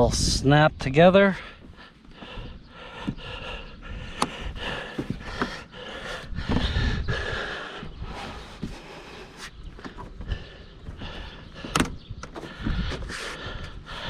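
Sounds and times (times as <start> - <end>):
person breathing heavily: 1.3 - 14.0
dull rumble of handling: 1.4 - 14.0.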